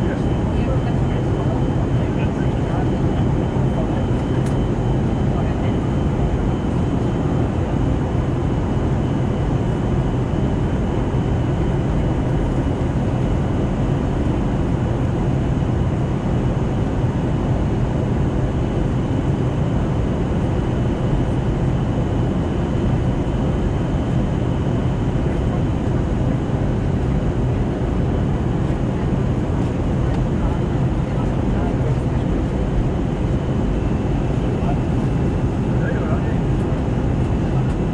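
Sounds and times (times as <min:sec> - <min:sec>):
faint steady whines: 0:00.0 - 0:37.9
jet engines humming: 0:00.0 - 0:37.9.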